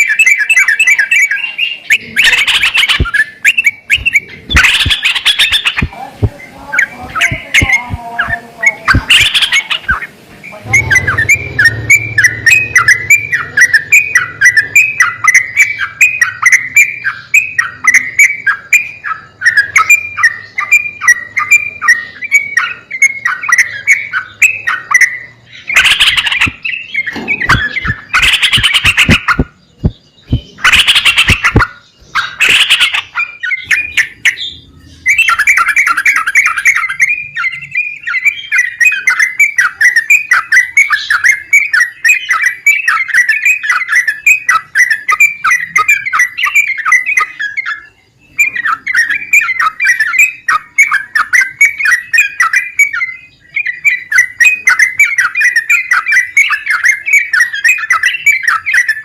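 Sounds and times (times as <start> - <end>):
bird chattering notes: 0.0 - 59.0
bird harsh calls: 0.0 - 59.0.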